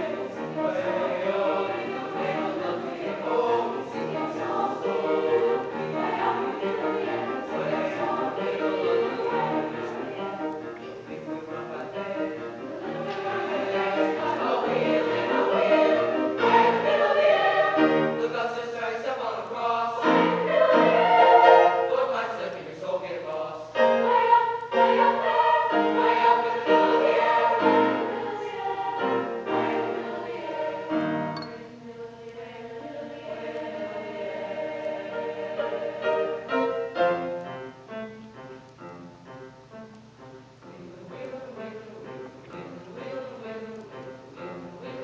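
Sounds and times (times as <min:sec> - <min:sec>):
choir singing in parts: 0:00.0 - 0:45.0.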